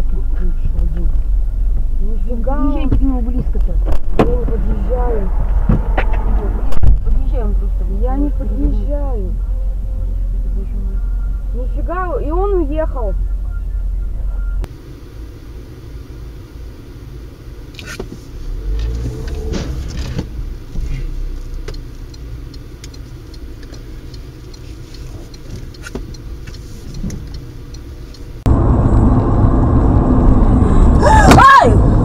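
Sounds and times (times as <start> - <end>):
car engine and road noise: 0.0 - 32.0
loud rumble of car driving: 0.0 - 32.0.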